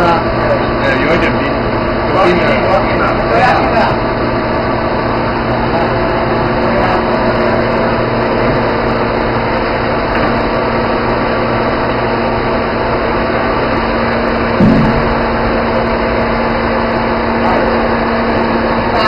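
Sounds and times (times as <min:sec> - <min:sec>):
motor running with low hum: 0:00.0 - 0:19.0.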